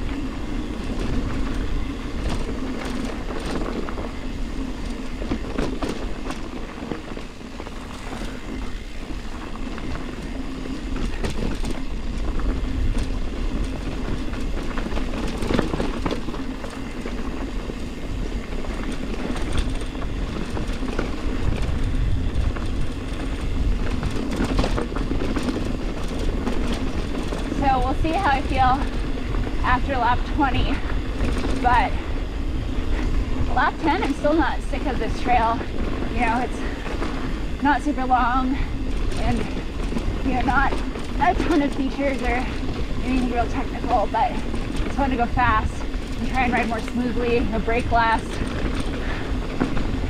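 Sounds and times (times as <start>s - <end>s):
bike rattling over bumps: 0.0s - 50.0s
bike tyres rolling over dirt: 0.0s - 50.0s
wind on microphone: 0.0s - 50.0s.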